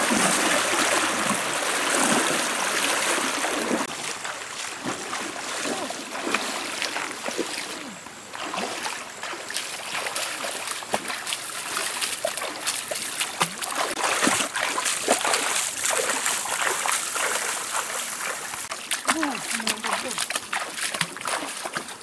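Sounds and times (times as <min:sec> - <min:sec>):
feet splashing in water: 0:00.0 - 0:22.0
stream rushing: 0:00.0 - 0:22.0.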